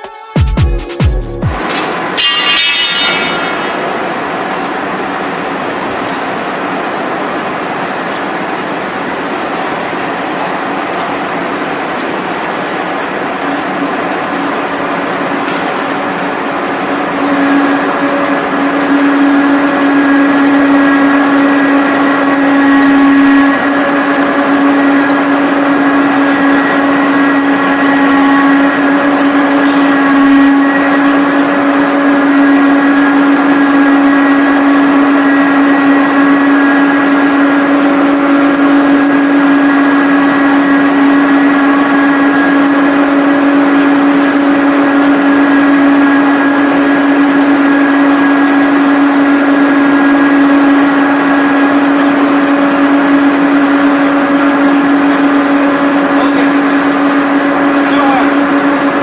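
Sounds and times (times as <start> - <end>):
high whine: 0.0 - 59.0
loud machine hum: 0.0 - 59.0.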